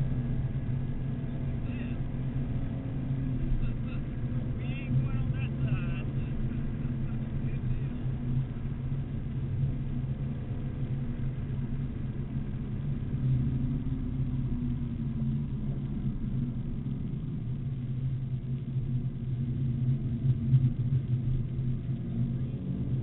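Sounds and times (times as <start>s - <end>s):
car engine running at speed: 0.0s - 23.0s.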